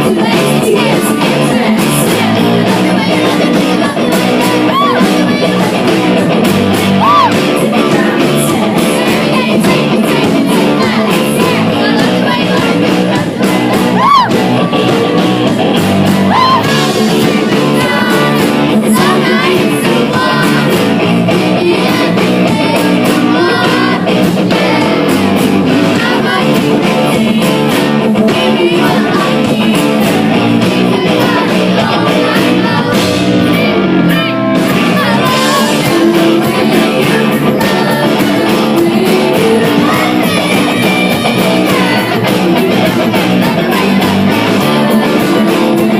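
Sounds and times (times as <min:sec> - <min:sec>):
drums: 0:00.0 - 0:45.9
electric guitars: 0:00.0 - 0:45.9
lead vocals: 0:00.0 - 0:45.9.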